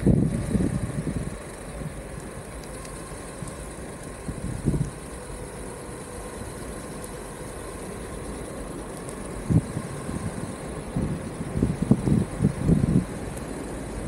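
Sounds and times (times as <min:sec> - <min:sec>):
faint motor whine: 0:00.0 - 0:14.0
skateboard wheels rumbling on road: 0:00.0 - 0:14.0.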